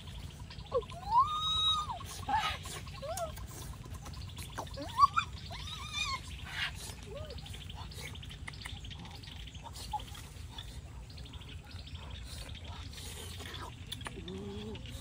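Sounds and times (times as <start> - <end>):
low outdoor rumble: 0.0 - 15.0
small birds chirping and trilling: 0.0 - 15.0.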